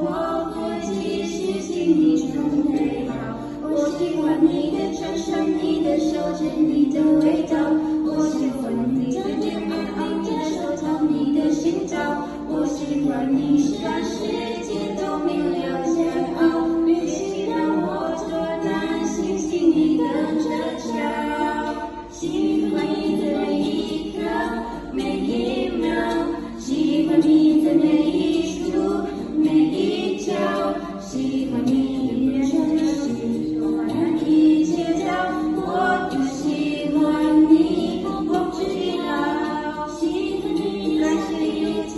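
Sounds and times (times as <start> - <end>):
music with singing voices: 0.0 - 41.9.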